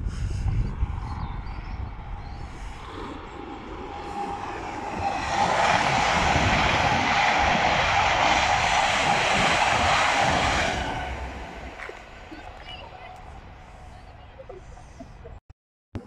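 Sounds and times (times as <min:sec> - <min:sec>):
high-speed train passing: 0:00.0 - 0:14.8.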